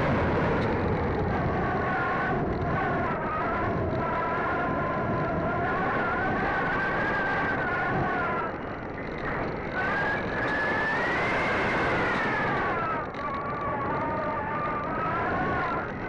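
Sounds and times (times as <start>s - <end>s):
electric motor and propeller whining: 0.0s - 16.0s
wind rush on microphone: 0.0s - 16.0s.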